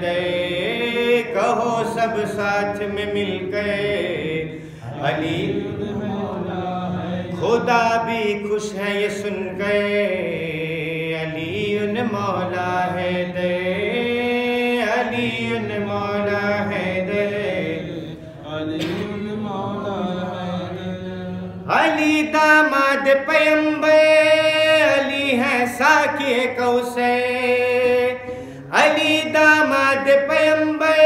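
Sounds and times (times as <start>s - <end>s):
man chanting: 0.0s - 31.0s.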